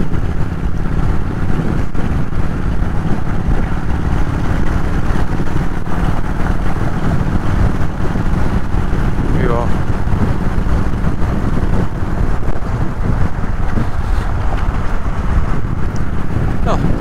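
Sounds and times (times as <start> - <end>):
motorcycle engine cruising: 0.0 - 17.0
wind rushing: 0.0 - 17.0.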